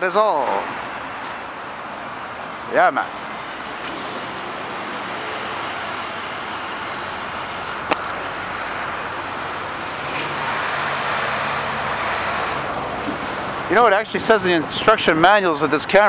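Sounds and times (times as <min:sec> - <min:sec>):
cars and trucks driving past: 0:00.0 - 0:16.0.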